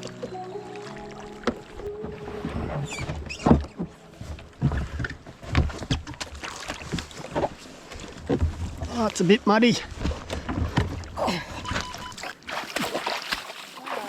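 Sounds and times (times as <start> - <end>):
paddle strokes splashing: 0.0 - 14.0
water sloshing against hull: 0.0 - 14.0.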